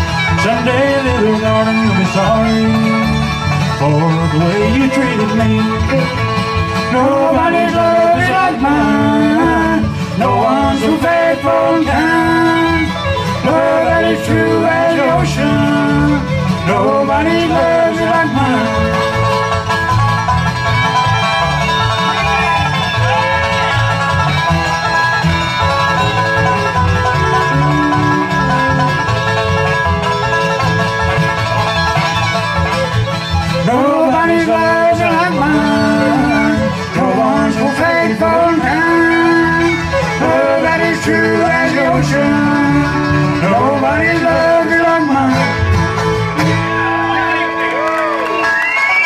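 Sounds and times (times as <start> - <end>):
bluegrass band playing: 0.0 - 49.0.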